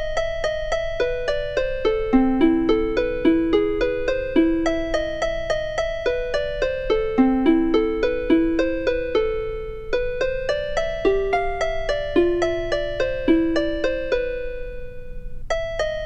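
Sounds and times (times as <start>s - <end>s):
faint low hum: 0.0s - 16.0s
light melody of ringing notes: 0.0s - 16.0s.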